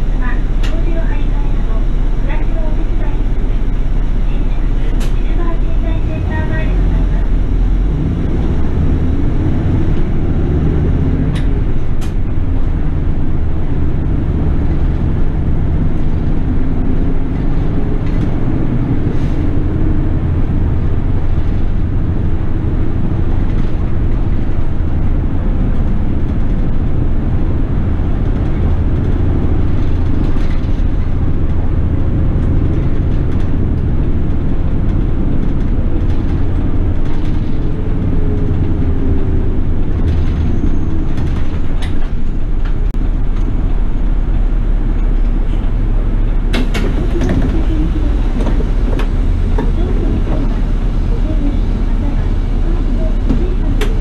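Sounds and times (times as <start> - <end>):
bus engine and road rumble: 0.0 - 54.0
bus whine: 0.0 - 54.0.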